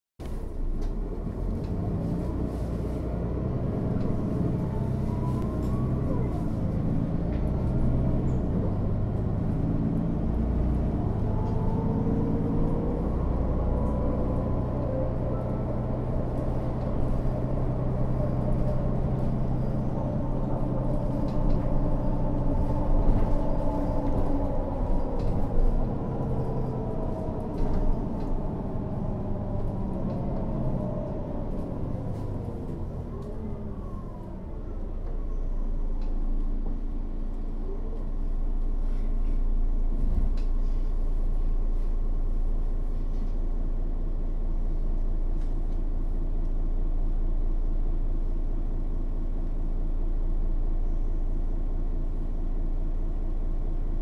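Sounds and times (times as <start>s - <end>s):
bus engine droning: 0.2s - 54.0s.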